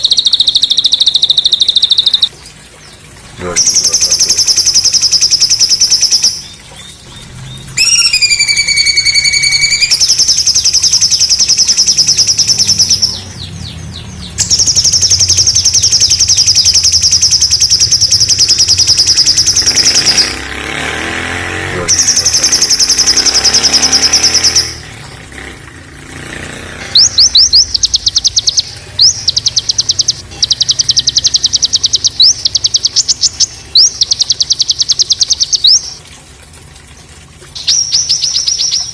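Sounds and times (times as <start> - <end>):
songbird singing fast trills: 0.0 - 2.3, 3.6 - 20.4, 21.9 - 24.9, 27.0 - 36.0, 37.6 - 38.9.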